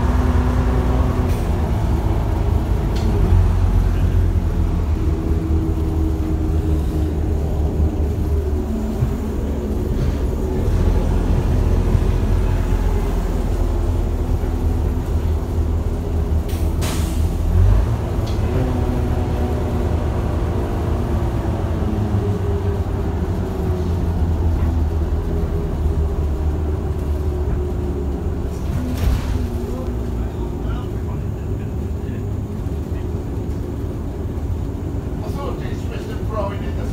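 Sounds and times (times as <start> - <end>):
bus engine drone: 0.0 - 36.9.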